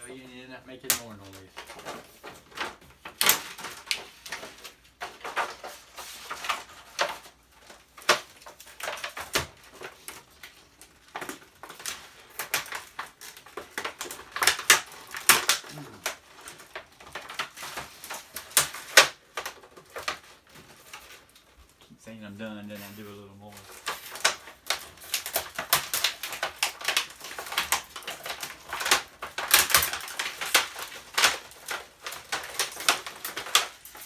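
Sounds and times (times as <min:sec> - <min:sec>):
brittle plastic cracking: 0:00.0 - 0:34.0.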